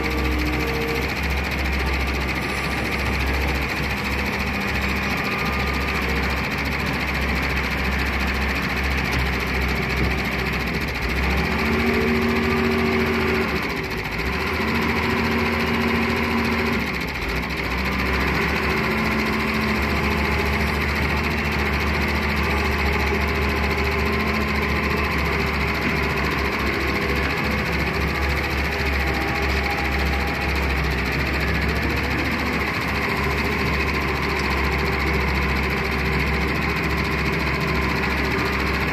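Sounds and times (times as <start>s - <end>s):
excavator diesel engine revving: 0.0s - 38.9s.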